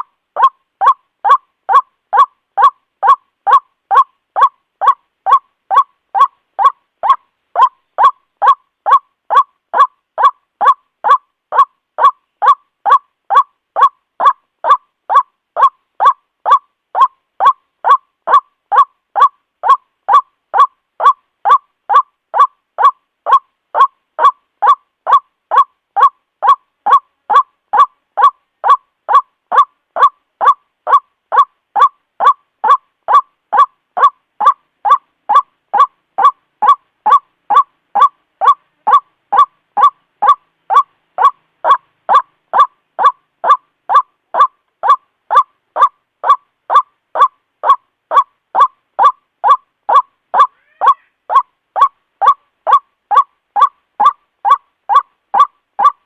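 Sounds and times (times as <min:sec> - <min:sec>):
bird repeating loud call: 0:00.4 - 0:56.0.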